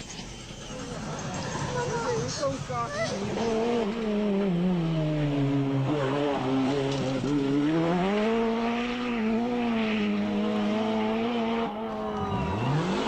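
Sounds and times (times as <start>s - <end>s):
rally car engine revving: 0.6s - 13.0s.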